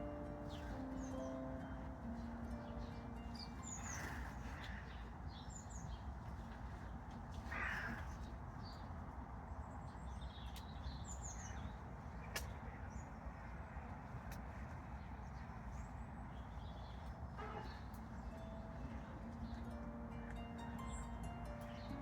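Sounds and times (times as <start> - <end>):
birds chirping: 0.0 - 6.2, 6.8 - 22.0.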